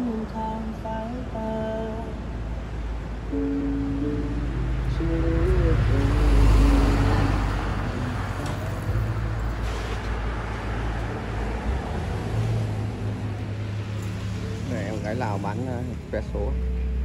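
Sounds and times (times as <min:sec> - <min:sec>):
low traffic rumble: 0:00.0 - 0:17.0
vehicle passing close by: 0:02.3 - 0:17.0.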